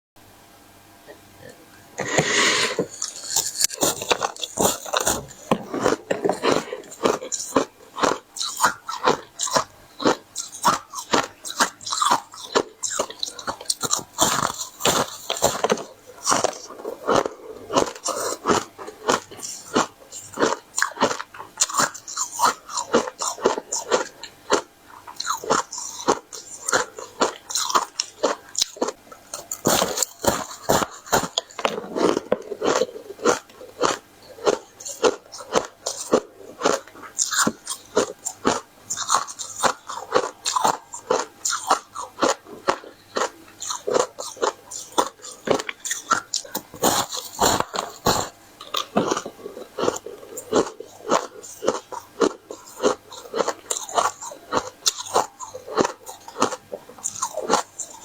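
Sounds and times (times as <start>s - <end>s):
crisp flatbread crunching: 2.0s - 58.0s.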